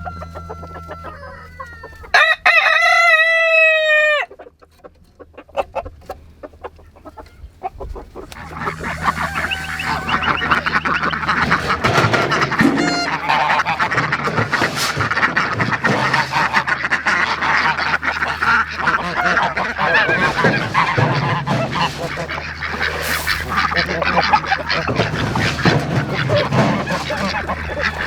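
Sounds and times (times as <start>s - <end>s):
waterfowl quacking and honking: 0.0s - 28.0s.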